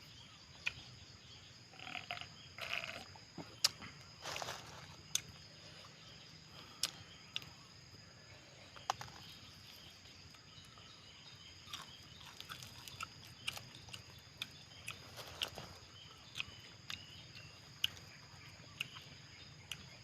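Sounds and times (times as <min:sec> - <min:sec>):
chewing with crunches: 0:00.5 - 0:01.0, 0:01.8 - 0:07.8, 0:08.6 - 0:20.0.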